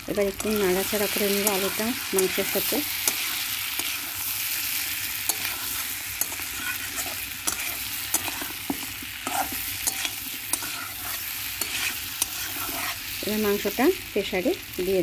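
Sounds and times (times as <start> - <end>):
meat and potatoes sizzling: 0.0 - 15.0
metal spatula scraping pan: 0.2 - 13.2.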